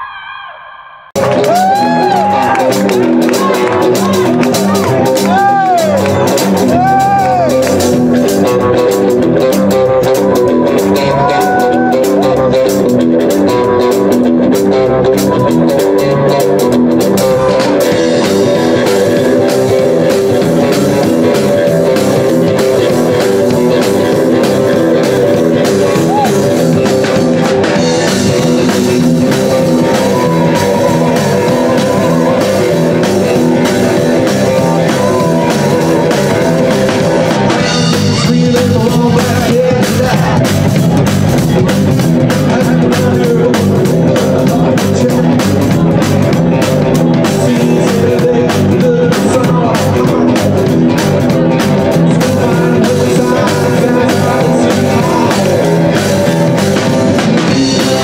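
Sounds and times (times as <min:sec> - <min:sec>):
driving drum beat: 0:01.2 - 0:58.0
electric guitars: 0:01.2 - 0:58.0.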